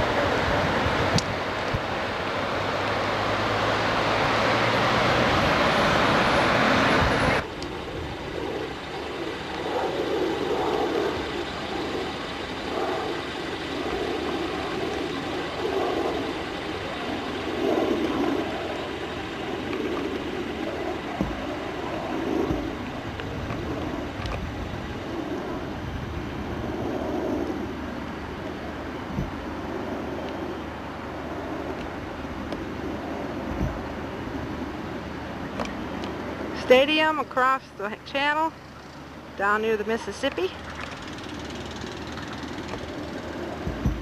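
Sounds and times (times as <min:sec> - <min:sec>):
soft wind gusts: 0:00.0 - 0:44.0
vehicle road and wind noise: 0:00.0 - 0:44.0.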